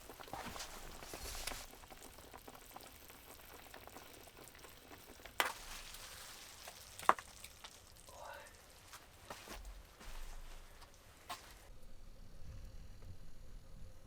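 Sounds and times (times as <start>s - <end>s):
stew simmering and bubbling: 0.0s - 14.0s.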